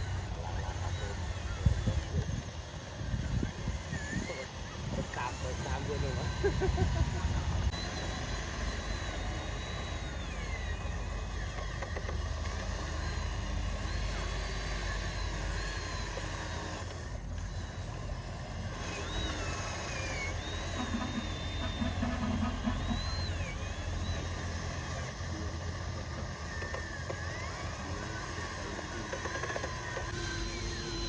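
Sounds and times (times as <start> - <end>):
electric motors whining: 0.0 - 31.0.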